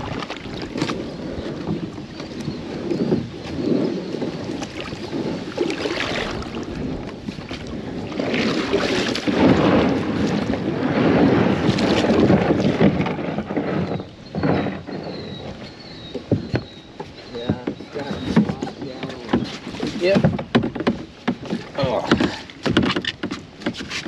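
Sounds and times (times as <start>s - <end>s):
paddle splashing water: 0.0s - 24.0s
wind noise on microphone: 0.0s - 24.0s.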